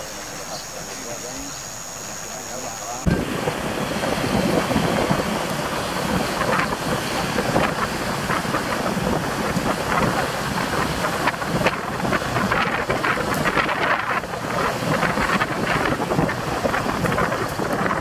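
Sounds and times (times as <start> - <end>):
wind buffeting microphone: 0.0 - 18.0
train wheels rumbling on rail: 3.0 - 18.0.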